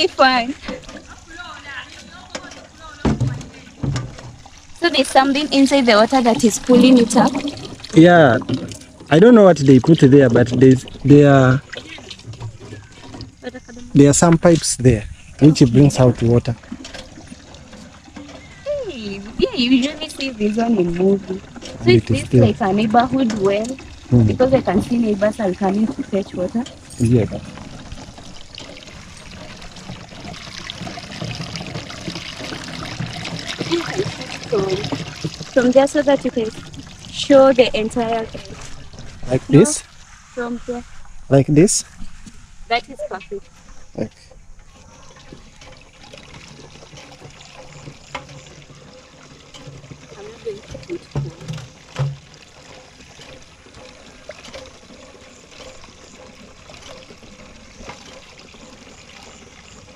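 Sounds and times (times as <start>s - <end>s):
water pouring into plastic jerrycan: 0.0s - 40.1s, 42.8s - 59.9s.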